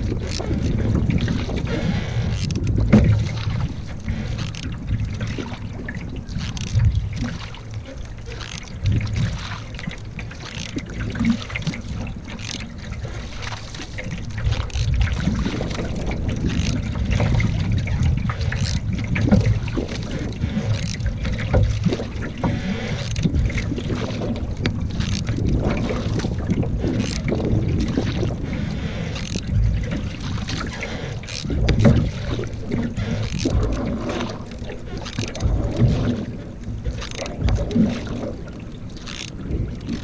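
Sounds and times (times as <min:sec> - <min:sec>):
water splashing against canoe: 0:00.0 - 0:40.0
wind rumbling on microphone: 0:00.0 - 0:40.0.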